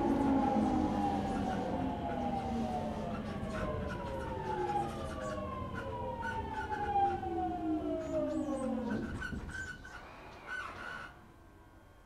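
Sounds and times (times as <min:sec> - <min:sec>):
electric train motor whine: 0:00.0 - 0:12.0.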